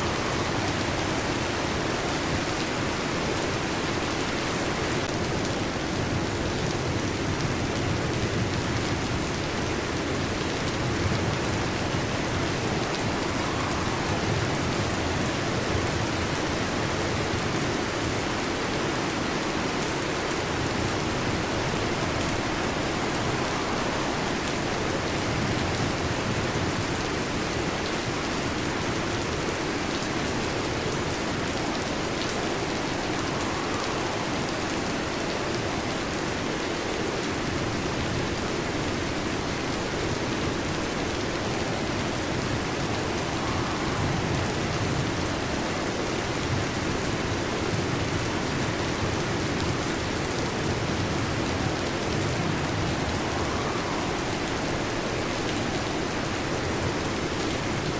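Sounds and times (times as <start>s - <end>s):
heavy rain on a metal roof: 0.0s - 57.9s.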